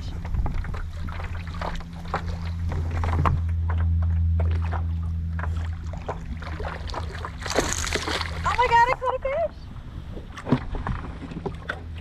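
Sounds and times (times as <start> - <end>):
steady low hum: 0.0 - 12.0
water lapping against kayak hull: 0.0 - 12.0.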